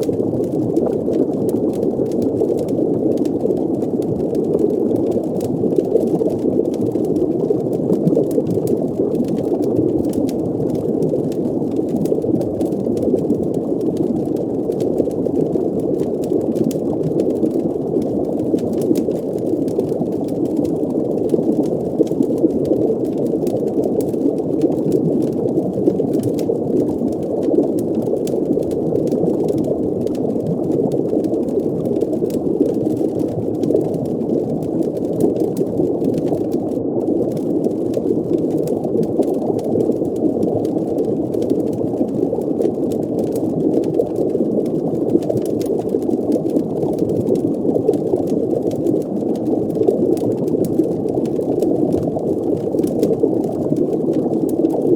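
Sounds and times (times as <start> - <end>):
faint crackles: 0.0 - 54.9
underwater bubbling rumble: 0.0 - 54.9.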